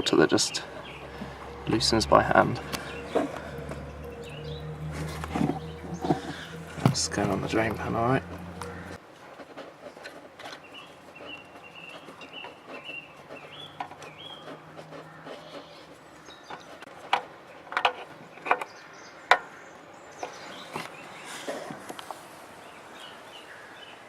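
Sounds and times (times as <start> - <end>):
bird singing: 0.0 - 9.0, 10.5 - 16.9, 17.5 - 21.5, 22.6 - 24.0.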